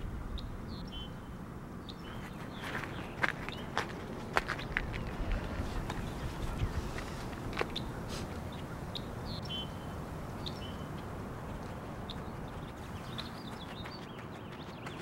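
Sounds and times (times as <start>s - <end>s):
outdoor ambience hiss: 0.0s - 15.0s
bird chirps: 0.3s - 5.2s, 5.8s - 15.0s.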